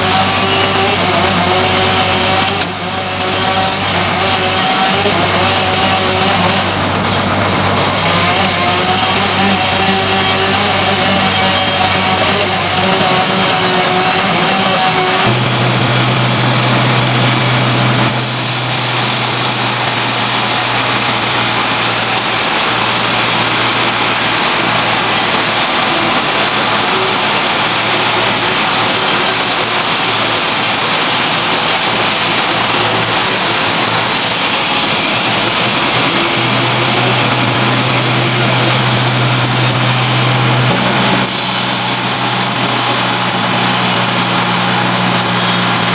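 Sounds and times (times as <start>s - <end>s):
saw engine cutting log: 0.0s - 45.9s.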